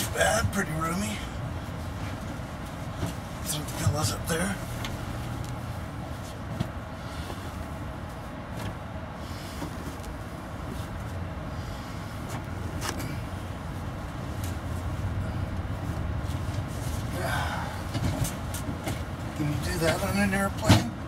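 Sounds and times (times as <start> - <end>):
train rumbling in motion: 0.0 - 21.0.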